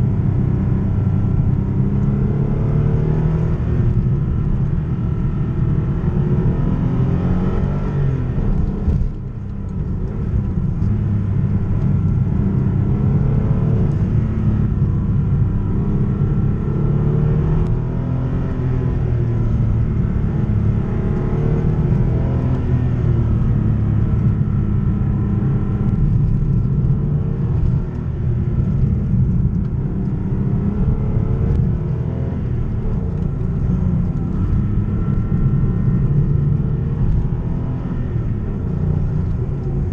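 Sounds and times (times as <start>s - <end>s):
car engine while driving: 0.0s - 39.9s.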